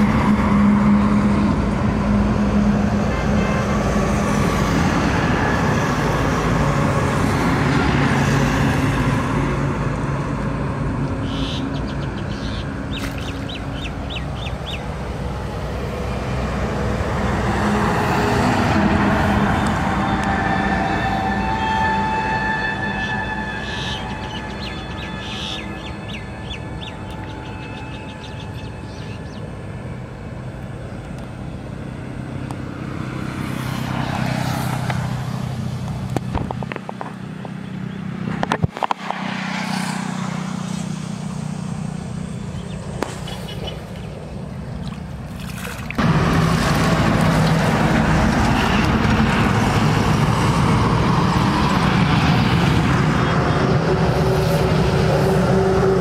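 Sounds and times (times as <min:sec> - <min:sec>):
steady vehicle drone: 0:00.0 - 0:56.0
vehicles passing by: 0:00.0 - 0:56.0.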